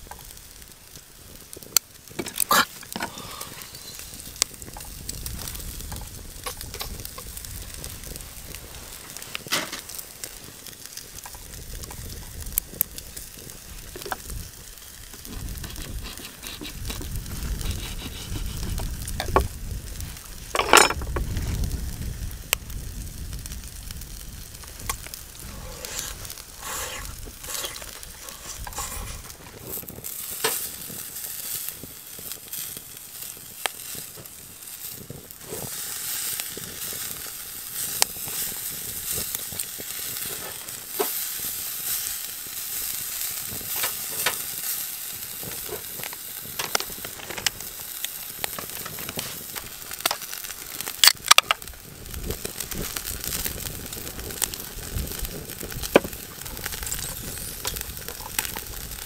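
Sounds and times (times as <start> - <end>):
meat sizzling on a grill: 0.0 - 59.0.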